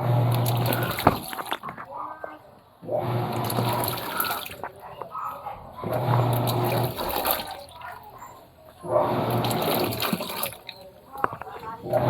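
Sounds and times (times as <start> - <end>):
washing machine motor hum: 0.0 - 2.1, 2.8 - 12.0
water sloshing: 0.0 - 12.0.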